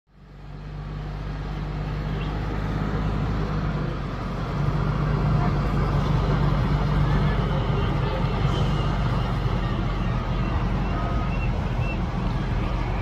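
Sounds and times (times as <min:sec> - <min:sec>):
fire truck engine humming: 0:00.1 - 0:13.0.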